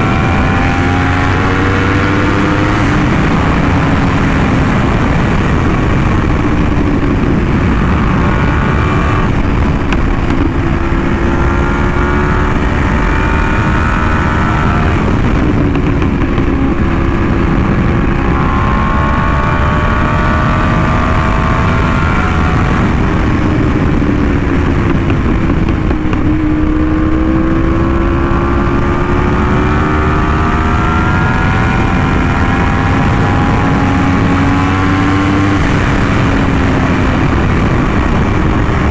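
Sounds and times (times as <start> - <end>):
motorcycle engine: 0.0 - 38.9
wind rushing: 0.0 - 38.9.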